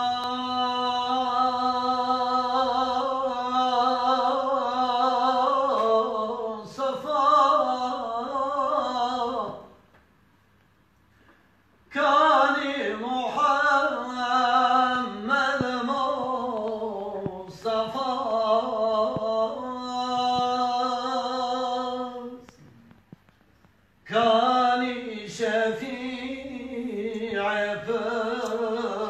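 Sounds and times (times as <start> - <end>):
man singing unaccompanied: 0.0 - 9.8, 11.9 - 22.6, 24.0 - 29.0.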